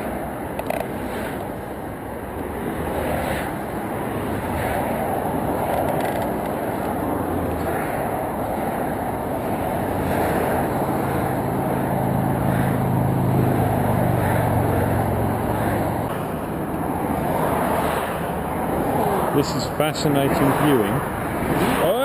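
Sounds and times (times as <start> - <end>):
road traffic: 0.0 - 22.0
vehicle engine: 0.0 - 22.0.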